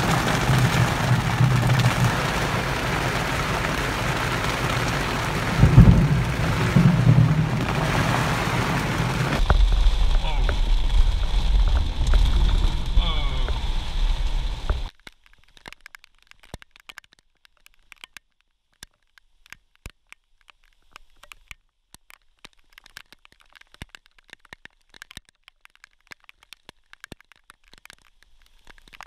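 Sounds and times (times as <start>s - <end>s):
rain drops ticking: 0.0s - 29.0s.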